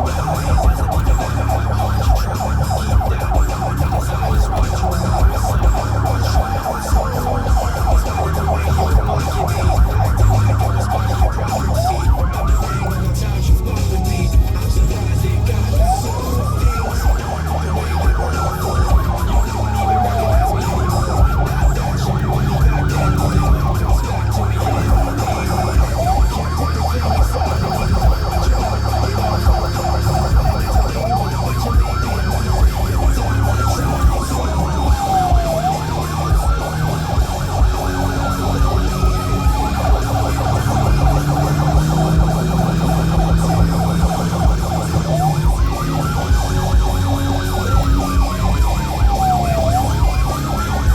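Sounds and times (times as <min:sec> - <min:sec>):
engine and road noise rumble: 0:00.0 - 0:50.9
police siren wailing and yelping: 0:00.0 - 0:50.9.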